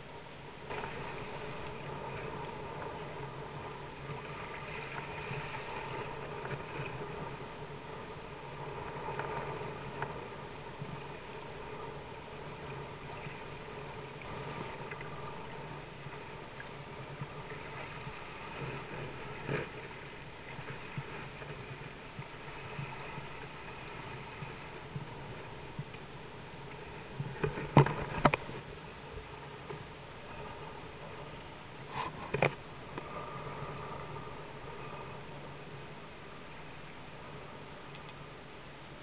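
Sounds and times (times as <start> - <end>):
constant hum: 0.0 - 39.0
wind and water rushing: 0.0 - 39.0.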